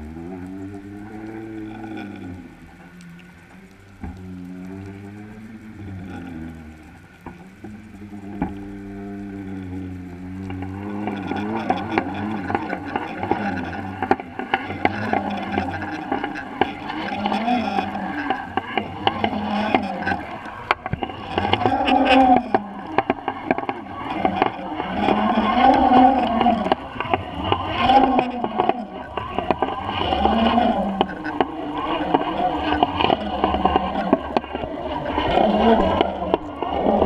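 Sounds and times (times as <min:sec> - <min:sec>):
boat motor droning underwater: 0:00.0 - 0:37.0.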